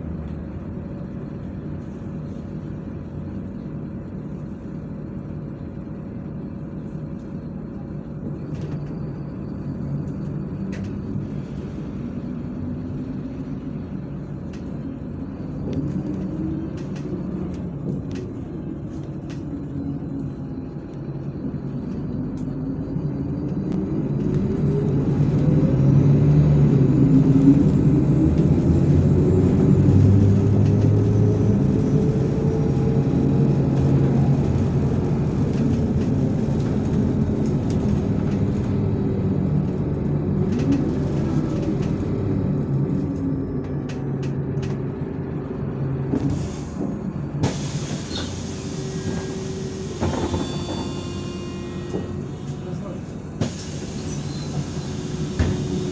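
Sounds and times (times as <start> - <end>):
bus engine rumbling: 0.0 - 55.9.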